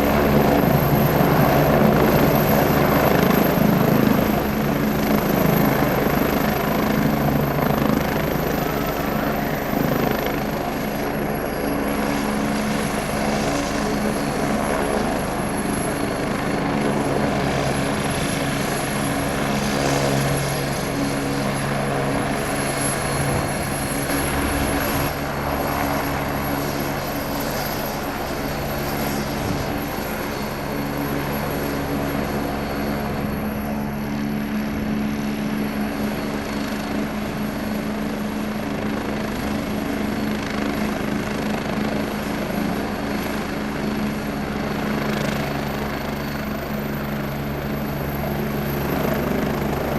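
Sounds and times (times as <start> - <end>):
helicopter rotor and engine hum: 0.0 - 49.9
helicopter turbine whine: 0.0 - 49.9.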